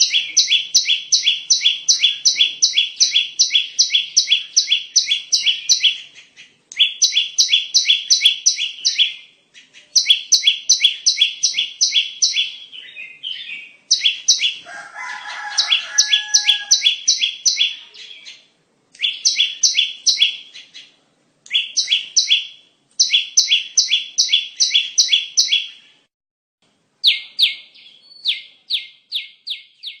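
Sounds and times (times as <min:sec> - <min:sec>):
bird high repeated chirps: 0:00.0 - 0:26.1, 0:27.0 - 0:30.0.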